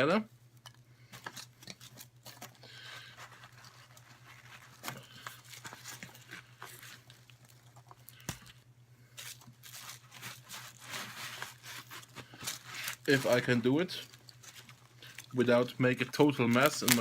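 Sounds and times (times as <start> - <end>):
steady low hum: 0.0 - 17.0
packaging clicks and rustles: 1.2 - 8.5, 9.2 - 17.0.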